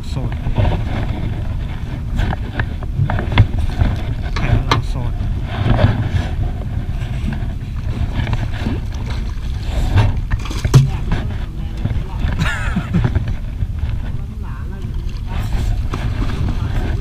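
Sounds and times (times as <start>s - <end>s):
low rumbling wind: 0.0s - 17.0s
water noise: 0.0s - 17.0s.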